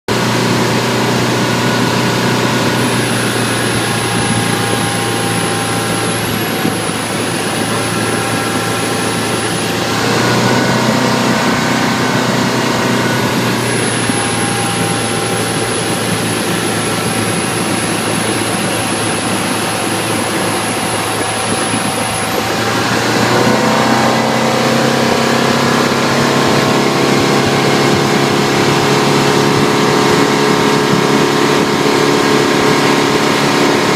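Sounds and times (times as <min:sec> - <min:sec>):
boat engine running: 0:00.1 - 0:33.9
high-pitched squeal: 0:00.6 - 0:33.9.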